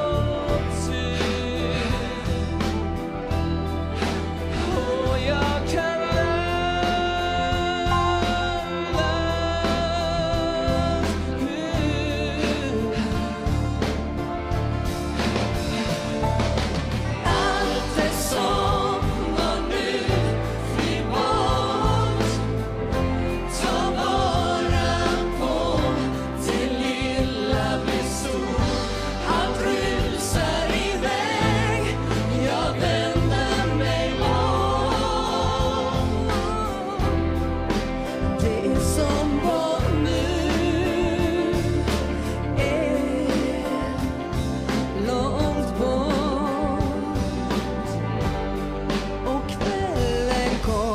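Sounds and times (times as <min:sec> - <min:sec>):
man and woman singing: 0:00.0 - 0:03.1, 0:04.0 - 0:13.8, 0:17.2 - 0:37.5, 0:38.1 - 0:47.8, 0:49.2 - 0:50.9
band with strong bass: 0:00.0 - 0:50.9.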